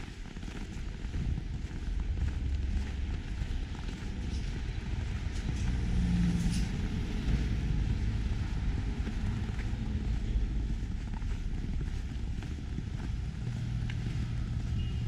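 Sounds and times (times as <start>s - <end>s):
car traffic rumble: 0.0s - 15.0s.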